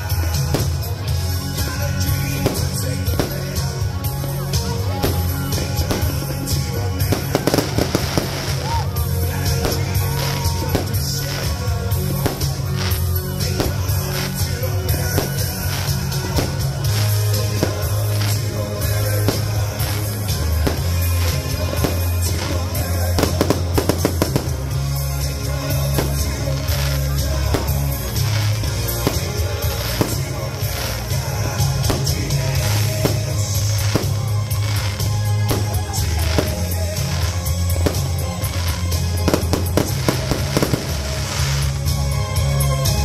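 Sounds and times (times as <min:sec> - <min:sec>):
fireworks launching and bursting: 0:00.0 - 0:43.0
music with steady bass line: 0:00.0 - 0:43.0.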